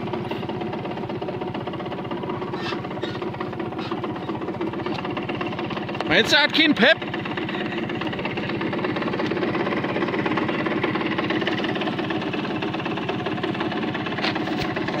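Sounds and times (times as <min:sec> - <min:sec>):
moped engine puttering: 0:00.0 - 0:15.0.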